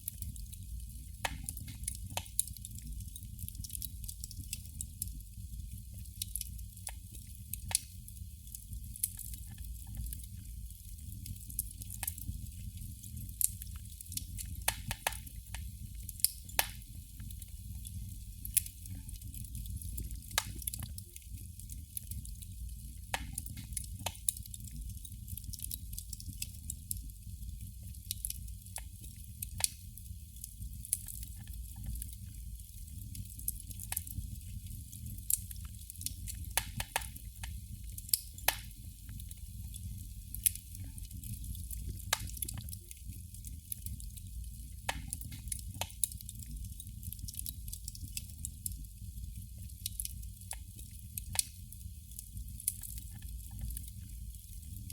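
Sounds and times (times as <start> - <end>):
candle flame crackling: 0.0 - 54.9.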